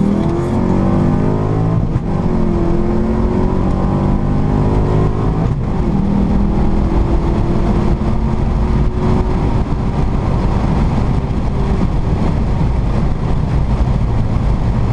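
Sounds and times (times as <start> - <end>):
car engine pulling hard: 0.0 - 14.9
road and wind noise: 0.0 - 14.9.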